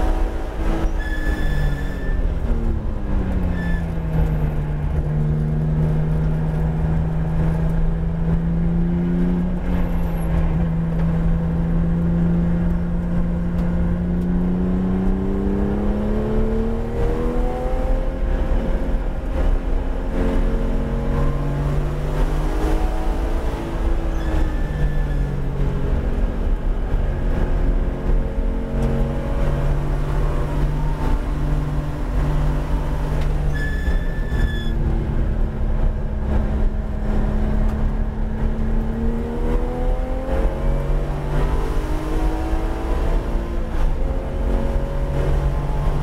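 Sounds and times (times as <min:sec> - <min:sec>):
road and tyre rumble: 0:00.0 - 0:46.0
car engine from inside cabin: 0:02.1 - 0:46.0.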